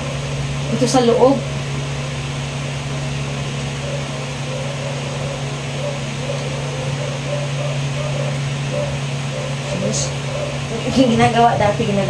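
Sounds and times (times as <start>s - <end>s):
electric fan humming and whirring: 0.0s - 12.0s.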